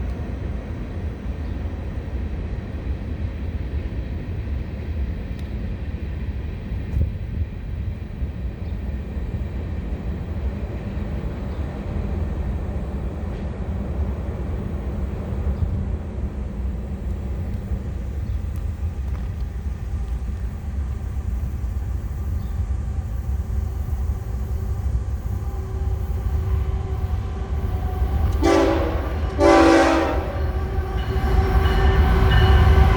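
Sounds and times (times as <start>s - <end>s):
diesel locomotives rumbling: 0.0s - 32.9s.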